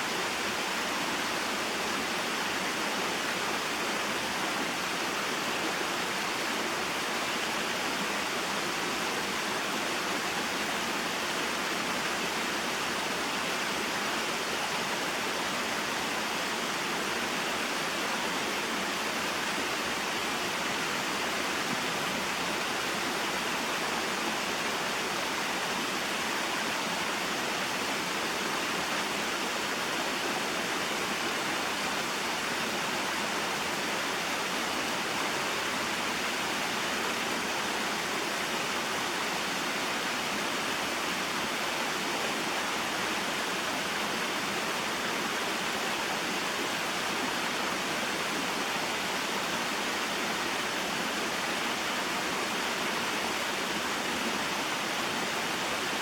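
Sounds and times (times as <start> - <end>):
waterfall and stream flowing: 0.0 - 56.0.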